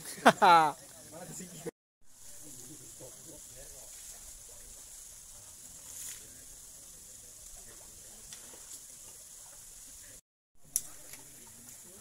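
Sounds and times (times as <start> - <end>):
high-pitched hiss: 0.0 - 12.0
faint indistinct voices: 0.8 - 12.0.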